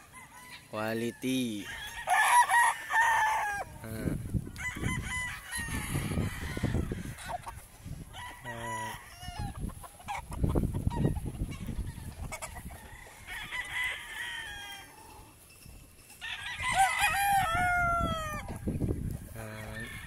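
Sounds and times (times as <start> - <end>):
roosters crowing: 0.0 - 20.0.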